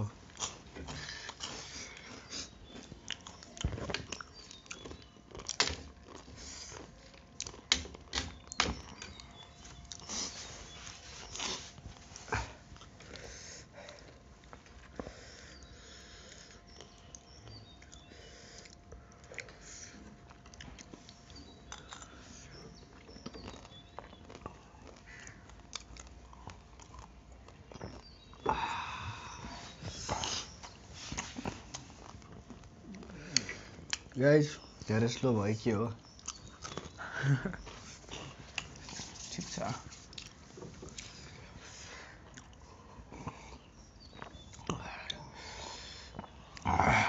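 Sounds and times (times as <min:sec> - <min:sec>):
chewing and crunching food: 0:00.0 - 0:47.0.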